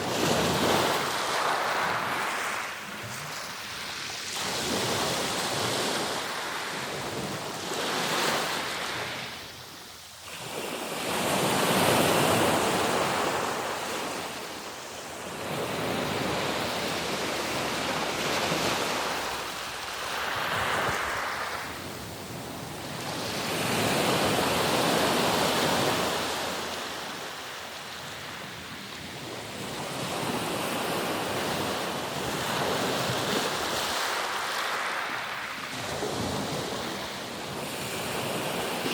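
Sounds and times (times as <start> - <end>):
waves rolling in and washing back: 0.0 - 38.9.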